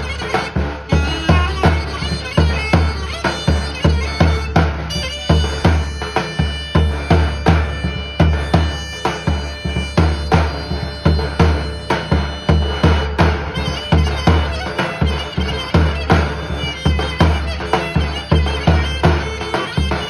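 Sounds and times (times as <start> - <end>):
reed wind instrument melody: 0.0 - 20.0.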